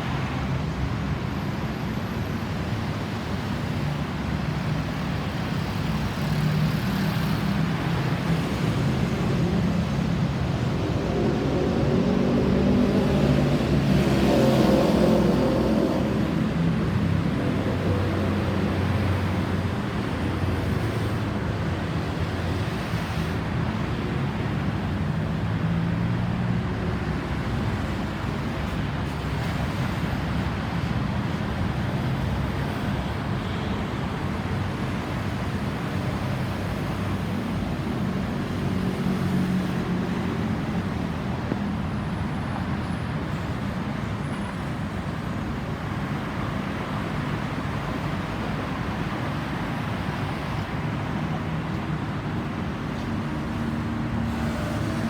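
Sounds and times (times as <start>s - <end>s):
steady road noise: 0.0s - 55.0s.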